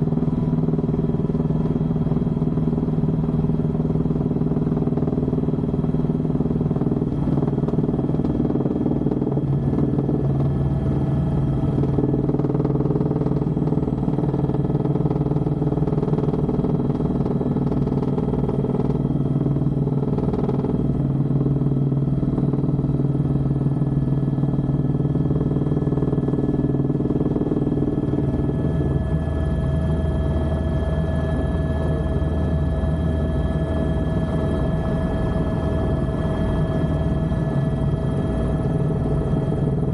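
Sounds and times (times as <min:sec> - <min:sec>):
helicopter engine and rotor: 0:00.0 - 0:39.9
high steady whining tones: 0:00.0 - 0:39.9.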